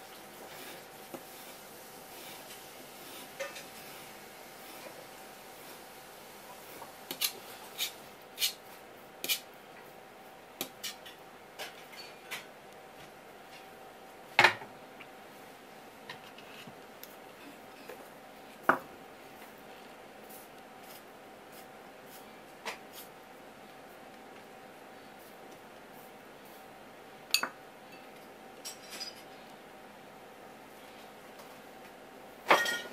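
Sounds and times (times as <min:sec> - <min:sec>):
faint steady hum: 0:00.0 - 0:32.9.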